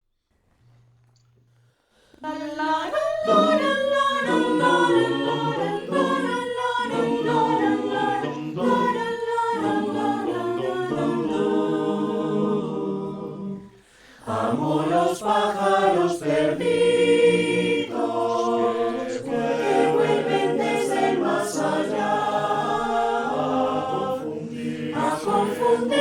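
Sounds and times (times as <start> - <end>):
mixed choir singing a cappella: 2.2 - 26.0.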